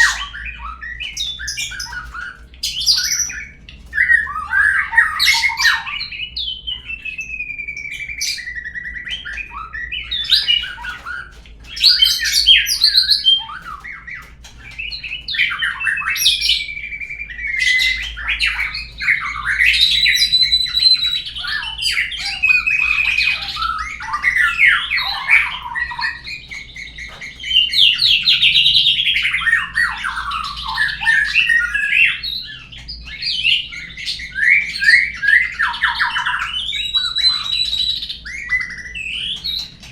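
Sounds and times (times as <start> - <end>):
recorded songbird whistles and trills: 0.0 - 39.9.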